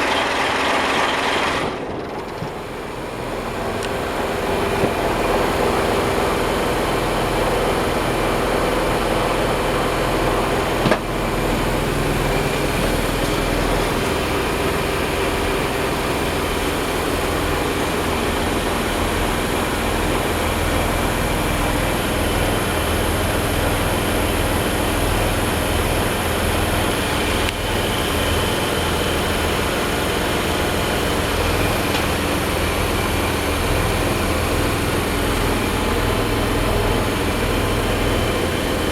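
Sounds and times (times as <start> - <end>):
diesel boat engine running: 0.0 - 38.9.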